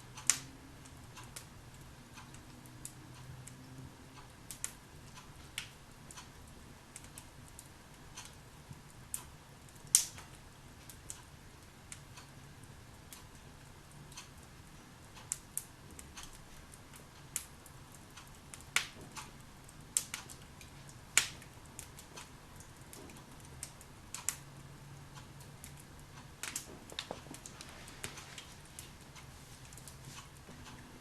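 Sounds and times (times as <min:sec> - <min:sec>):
log fire crackling: 0:00.0 - 0:31.0.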